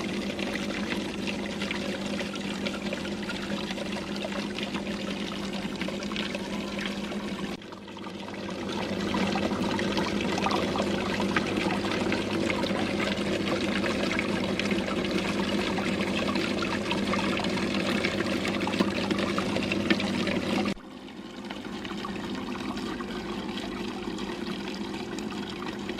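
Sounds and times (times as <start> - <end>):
water pouring and trickling: 0.0 - 25.9.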